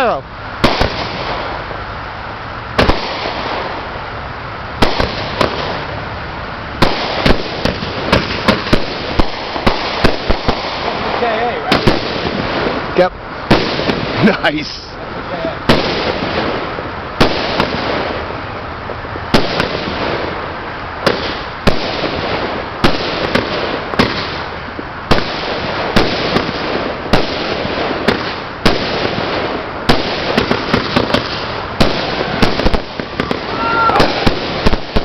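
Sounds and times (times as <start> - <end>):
fireworks banging: 0.0 - 1.9, 2.7 - 35.0
fireworks crackling hiss: 0.0 - 35.0.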